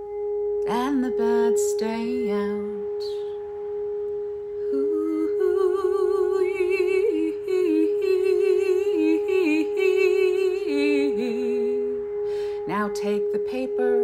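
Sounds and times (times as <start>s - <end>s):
singing bowl ringing: 0.0s - 14.0s
woman singing wordless notes: 0.6s - 3.8s, 4.5s - 14.0s.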